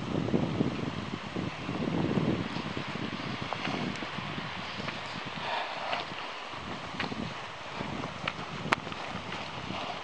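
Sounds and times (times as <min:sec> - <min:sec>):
river rushing: 0:00.0 - 0:10.0
wind buffeting microphone: 0:00.0 - 0:10.0.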